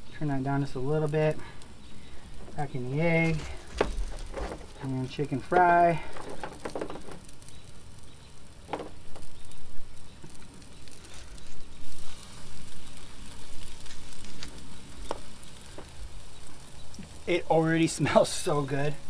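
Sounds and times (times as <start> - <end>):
fish frying in hot oil: 0.0 - 19.0.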